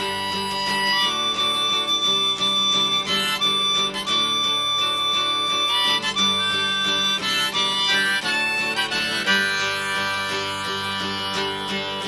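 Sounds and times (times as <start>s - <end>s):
harmonica playing: 0.0s - 12.0s
strummed acoustic guitar: 0.0s - 12.0s.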